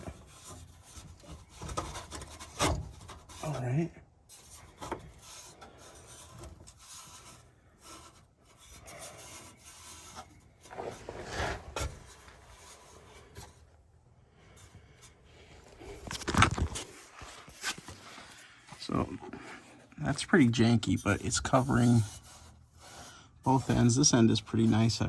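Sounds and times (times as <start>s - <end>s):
metal pipes scraping: 0.0s - 13.7s, 14.6s - 25.0s.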